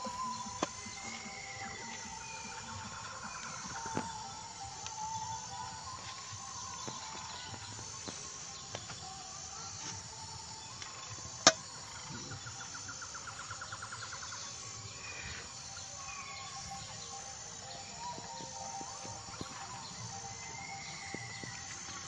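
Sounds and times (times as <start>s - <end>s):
night insects chirring: 0.0s - 22.0s
rapid pulsed chirp: 0.0s - 22.0s.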